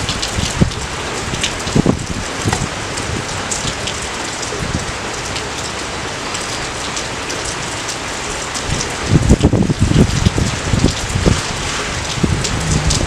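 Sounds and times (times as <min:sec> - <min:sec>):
rain drips ticking: 0:00.0 - 0:13.0
steady rain falling: 0:00.0 - 0:13.0.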